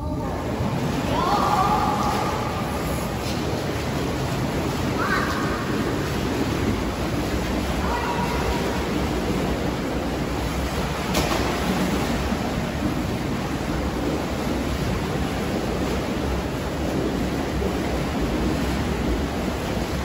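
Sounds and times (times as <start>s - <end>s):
spa jets churning water: 0.0s - 20.0s.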